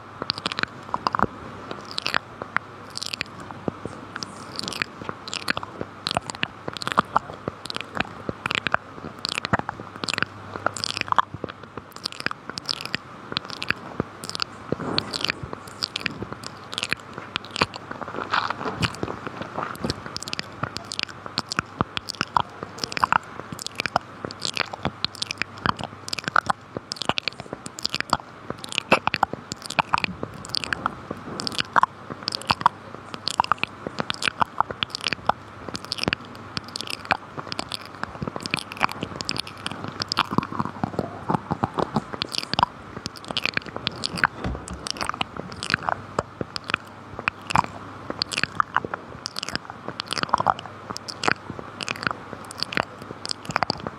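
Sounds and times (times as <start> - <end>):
mouth clicks and smacks: 0.0 - 53.9.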